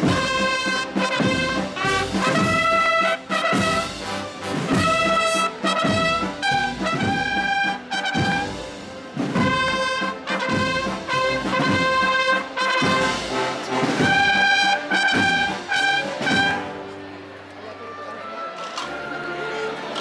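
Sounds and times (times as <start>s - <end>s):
drum strokes: 0.0s - 16.9s
brass band playing a march: 0.0s - 20.0s.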